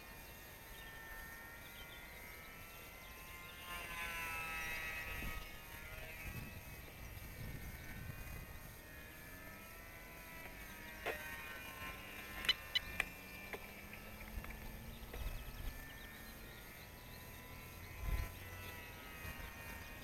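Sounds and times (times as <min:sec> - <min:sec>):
model plane motor buzzing: 0:00.0 - 0:20.0.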